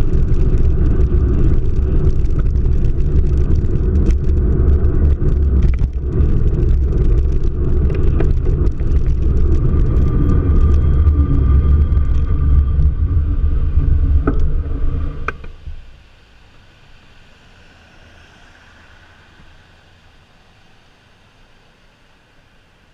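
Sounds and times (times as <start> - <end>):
car driving rumble: 0.0 - 22.2.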